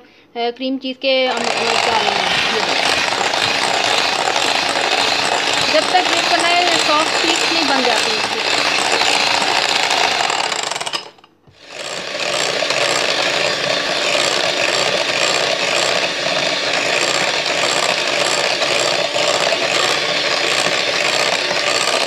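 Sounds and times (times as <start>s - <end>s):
electric hand mixer whirring: 1.3s - 22.0s.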